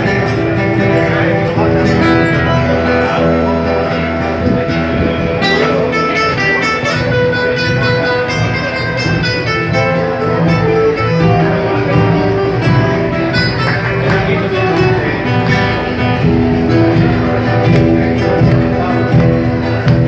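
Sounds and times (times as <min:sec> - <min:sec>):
acoustic guitar strumming: 0:00.0 - 0:20.0
drums: 0:00.0 - 0:20.0
melody of held notes: 0:00.0 - 0:20.0.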